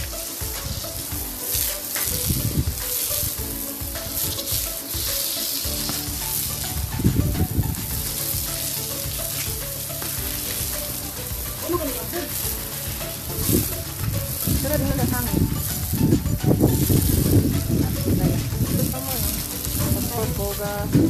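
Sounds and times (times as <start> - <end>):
hose water spraying on tiles: 0.0 - 21.0
low thumps: 0.0 - 21.0.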